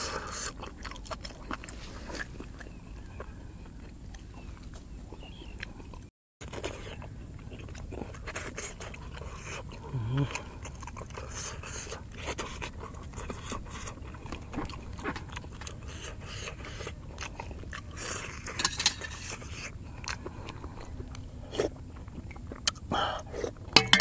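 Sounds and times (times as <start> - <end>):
wet chewing and lip-smacking: 0.0 - 23.8.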